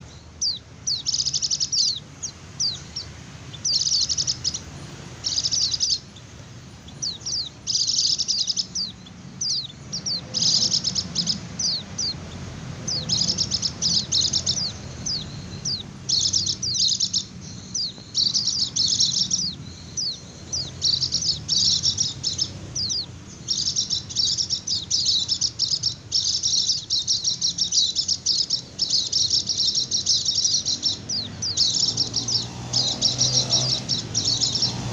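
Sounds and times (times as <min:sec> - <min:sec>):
bird twittering trills: 0:00.0 - 0:34.9.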